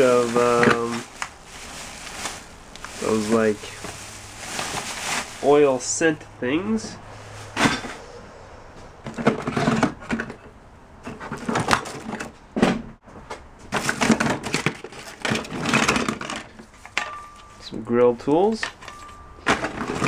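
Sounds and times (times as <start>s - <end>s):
household items rustling and clattering: 0.0s - 6.0s, 6.8s - 8.1s, 8.8s - 17.8s, 18.5s - 20.0s.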